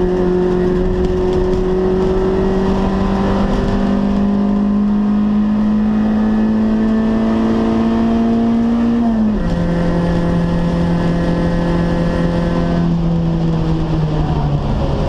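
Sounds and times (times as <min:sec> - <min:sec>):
car engine from inside cabin: 0:00.0 - 0:15.0
road noise: 0:00.0 - 0:15.0
wind noise: 0:00.0 - 0:15.0.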